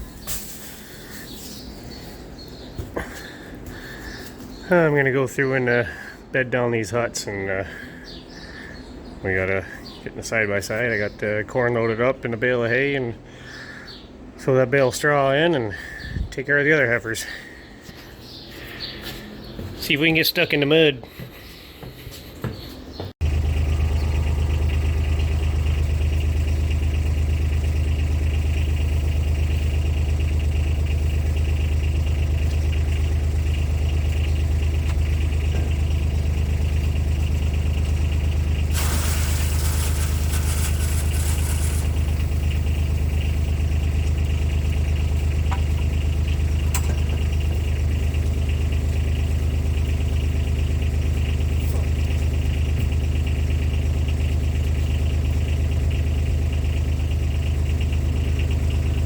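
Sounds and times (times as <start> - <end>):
utility vehicle engine droning: 0.0 - 16.0, 22.8 - 59.0.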